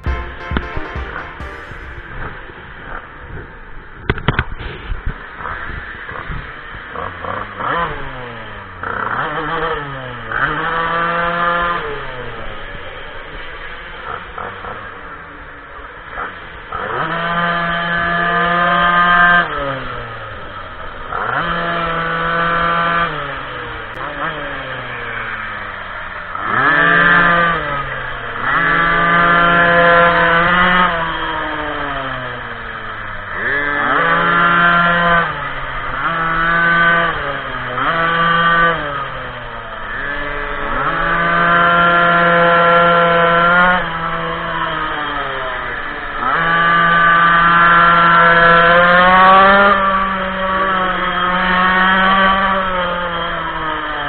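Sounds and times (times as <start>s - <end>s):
small two-stroke engine revving: 6.3s - 12.6s, 16.2s - 54.0s.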